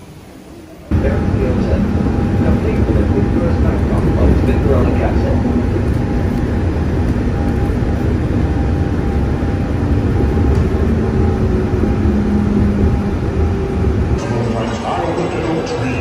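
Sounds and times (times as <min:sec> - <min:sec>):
monorail train rumble: 0:00.0 - 0:16.0.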